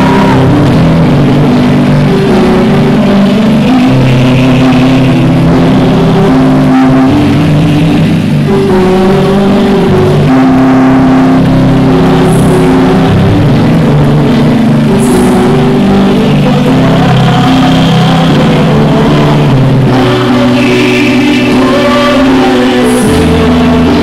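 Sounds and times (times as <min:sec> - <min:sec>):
man singing long held notes: 0:00.0 - 0:24.0
musical accompaniment: 0:00.0 - 0:24.0.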